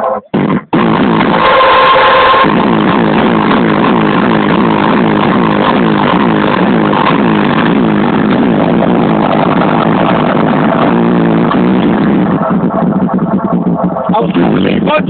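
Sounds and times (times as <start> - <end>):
bass-heavy music from subwoofers: 0.0 - 15.0.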